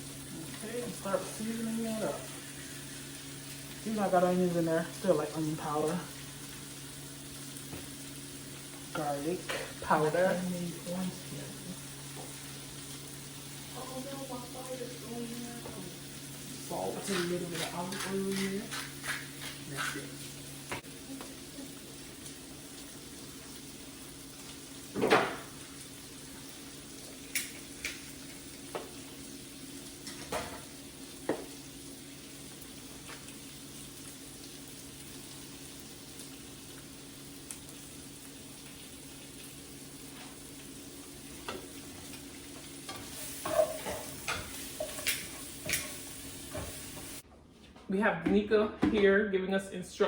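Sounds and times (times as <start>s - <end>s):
food sizzling in a pan: 0.0s - 47.2s.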